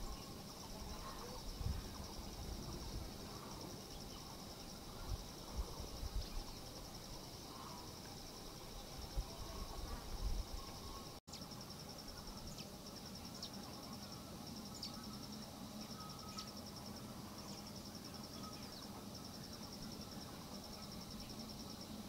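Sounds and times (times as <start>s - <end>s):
high insect trill: 0.0s - 22.0s.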